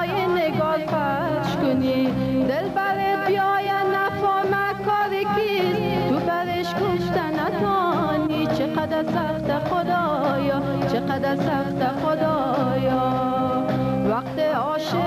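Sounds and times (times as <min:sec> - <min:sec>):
instrumental accompaniment: 0:00.0 - 0:15.0
woman singing: 0:00.0 - 0:15.0.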